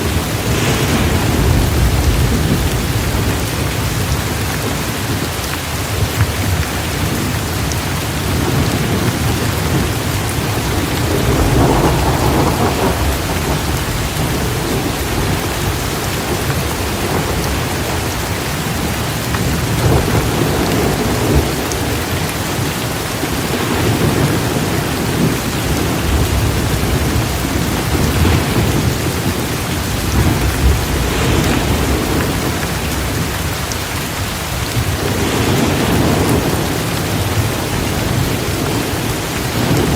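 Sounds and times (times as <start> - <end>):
rolling thunder: 0.0 - 5.3, 5.9 - 33.6
heavy rain downpour: 0.0 - 39.9.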